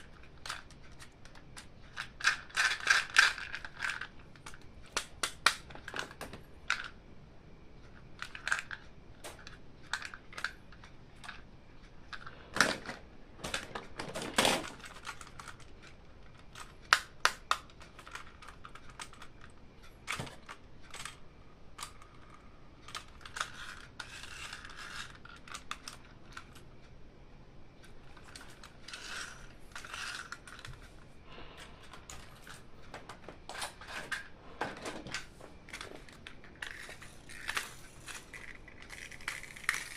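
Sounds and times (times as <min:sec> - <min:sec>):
plastic toys clicking and tapping: 0:00.0 - 0:07.0, 0:07.8 - 0:26.7, 0:27.8 - 0:31.0, 0:31.6 - 0:39.9.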